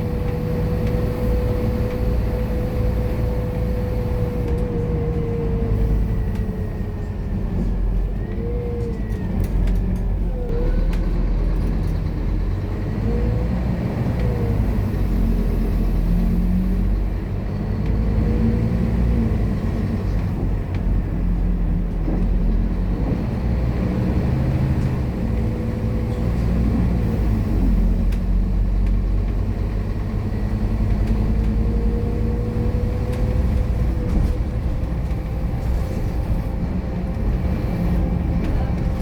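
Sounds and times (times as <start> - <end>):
bus diesel engine running: 0.0 - 39.0.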